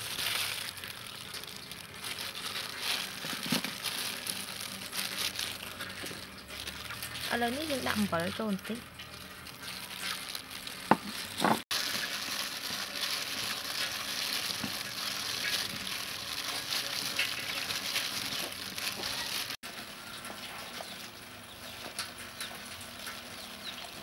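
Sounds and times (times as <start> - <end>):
gloved hands squishing food: 0.0 - 19.6.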